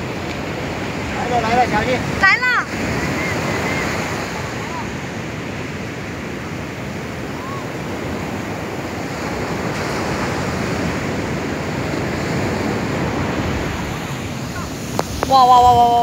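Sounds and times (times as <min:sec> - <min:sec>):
heavy surf breaking on beach: 0:00.0 - 0:16.0
wind on microphone: 0:00.0 - 0:16.0.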